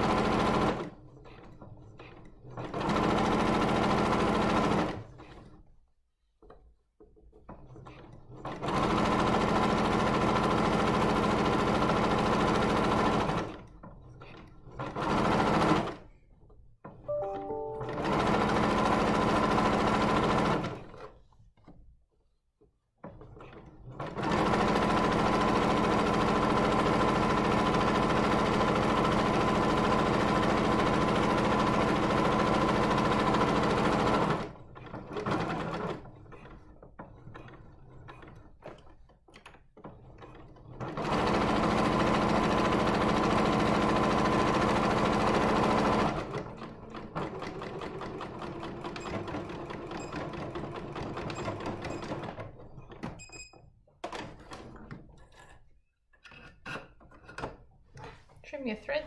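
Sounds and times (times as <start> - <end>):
sewing machine stitching: 0.0 - 5.8, 6.4 - 21.9, 23.0 - 58.8.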